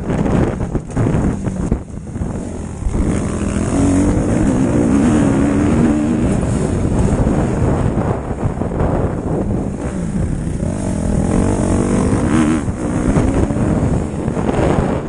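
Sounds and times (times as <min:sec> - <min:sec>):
motocross bike engine: 0:00.0 - 0:15.0
wind buffeting microphone: 0:00.0 - 0:15.0.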